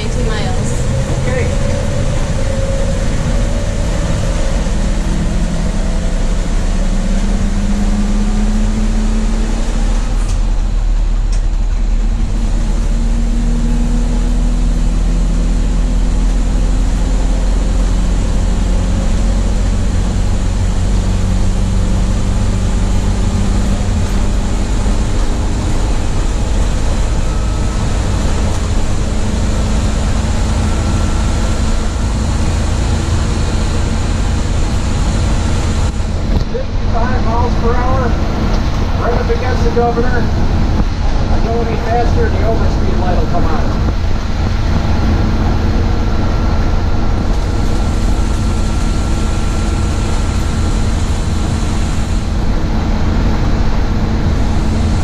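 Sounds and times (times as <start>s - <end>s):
bus engine running under load: 0.0s - 55.0s
road and wind noise: 0.0s - 55.0s.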